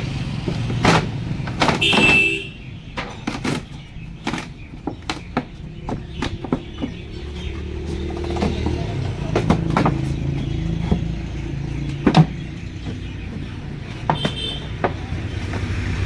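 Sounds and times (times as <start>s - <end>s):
metal knocks and clanks: 0.0s - 16.0s.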